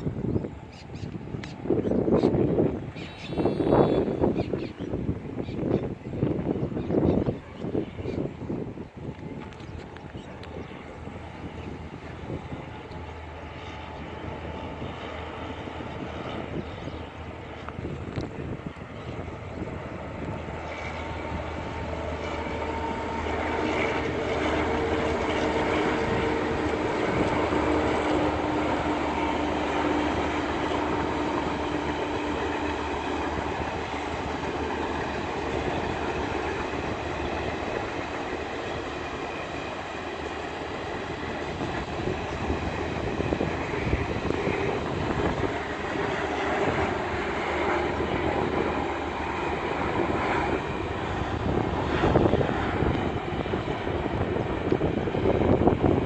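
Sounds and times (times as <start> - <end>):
diesel generator drone and whine: 0.0 - 56.0
train coaches rumbling past: 0.0 - 56.0.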